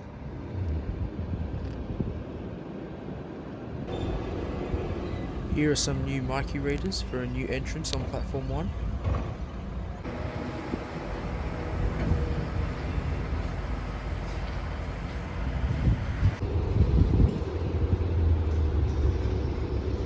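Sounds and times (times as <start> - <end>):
vehicle rumble: 3.9 - 20.0.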